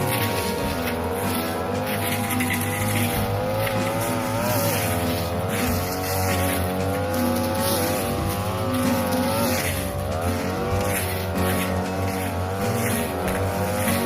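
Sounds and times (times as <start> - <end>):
brush cutter cutting grass: 0.0 - 14.0.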